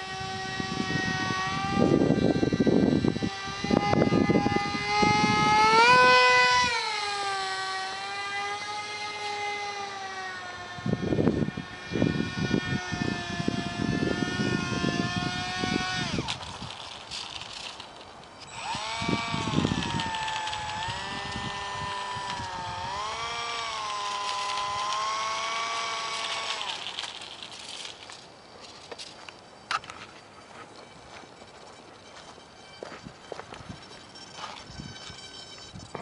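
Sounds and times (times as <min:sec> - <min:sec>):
small electric motor whining: 0:00.0 - 0:36.0.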